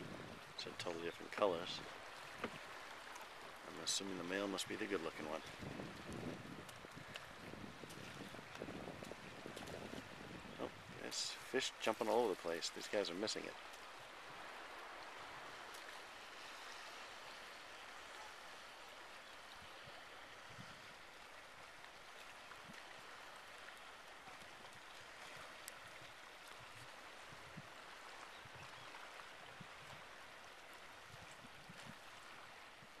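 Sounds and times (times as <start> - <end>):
small sea waves lapping: 0.0 - 33.0
light ticks of water: 0.2 - 33.0.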